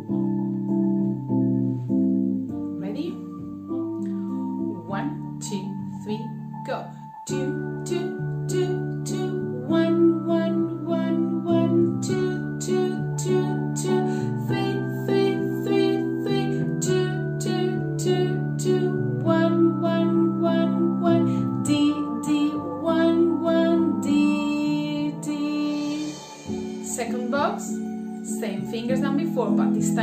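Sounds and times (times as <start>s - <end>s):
woman singing numbers: 2.8s - 3.3s, 4.7s - 26.2s, 26.8s - 30.0s.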